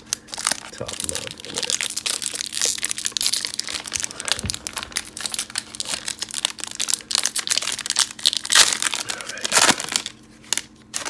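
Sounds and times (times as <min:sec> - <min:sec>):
wrapper crinkling and tearing: 0:00.0 - 0:11.0.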